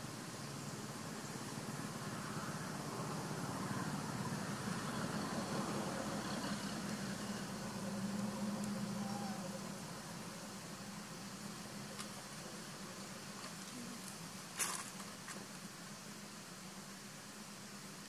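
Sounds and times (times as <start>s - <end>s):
background hiss: 0.0s - 18.0s
steady low hum: 0.0s - 18.0s.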